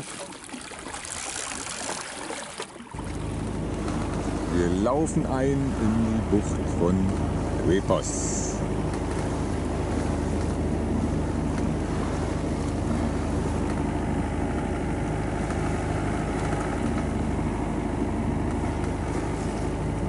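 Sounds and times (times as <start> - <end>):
boat engine humming: 0.0 - 20.0
water rushing along hull: 0.0 - 20.0.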